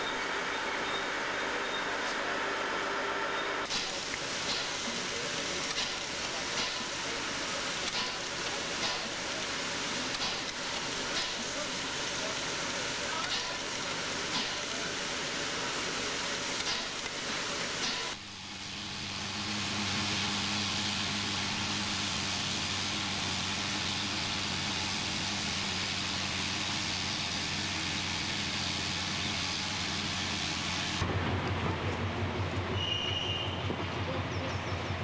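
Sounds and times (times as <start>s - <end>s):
steam air pump working: 0.0s - 35.0s
steam hissing: 0.0s - 35.0s.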